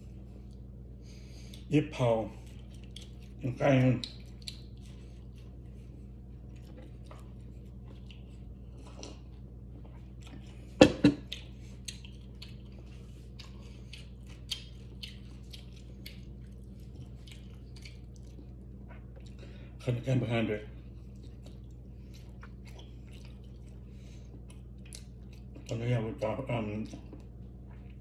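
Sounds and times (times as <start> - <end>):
person chewing food: 0.0 - 19.8, 20.7 - 25.8, 26.8 - 28.0.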